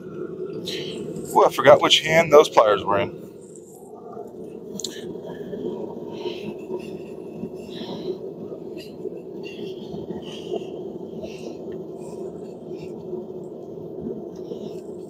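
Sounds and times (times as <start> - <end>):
forge burner roaring: 0.0 - 15.0.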